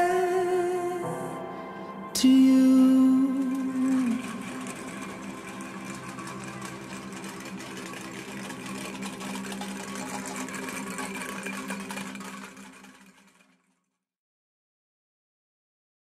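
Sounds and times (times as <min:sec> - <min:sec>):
low engine hum: 0:00.0 - 0:13.4.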